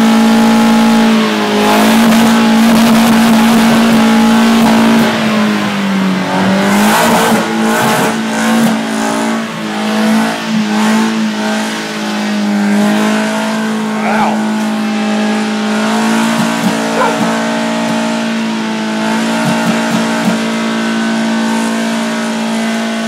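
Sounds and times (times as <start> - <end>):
car engine at high revs: 0.0 - 23.0.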